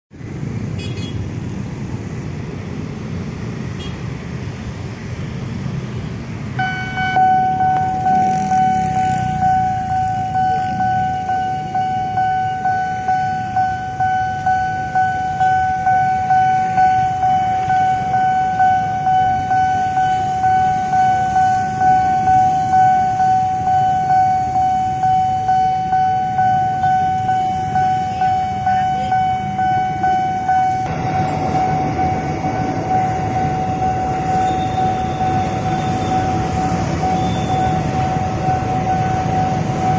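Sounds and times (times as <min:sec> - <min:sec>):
car and motorbike engines: 0:00.1 - 0:39.9
level crossing warning bell: 0:06.6 - 0:39.9.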